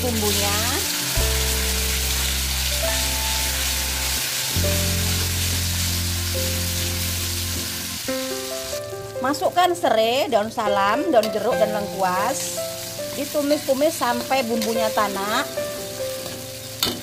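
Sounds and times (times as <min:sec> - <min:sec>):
spice paste sizzling in oil: 0:00.0 - 0:09.6, 0:10.2 - 0:17.0.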